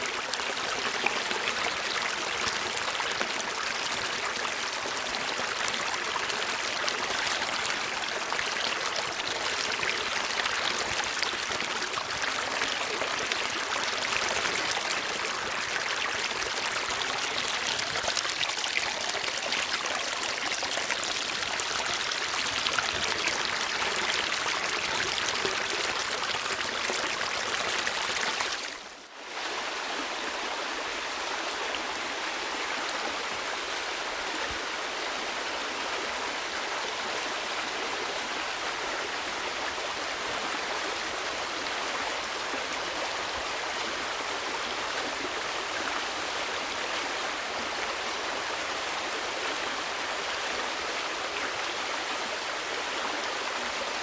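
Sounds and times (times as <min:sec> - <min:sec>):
stream rushing and babbling: 0:00.0 - 0:54.0.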